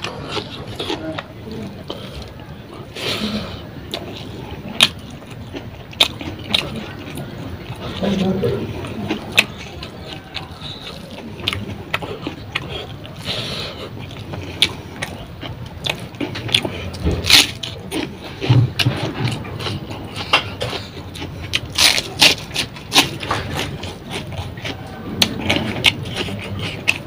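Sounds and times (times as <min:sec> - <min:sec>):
chewing with mouth clicks: 0:00.0 - 0:27.0.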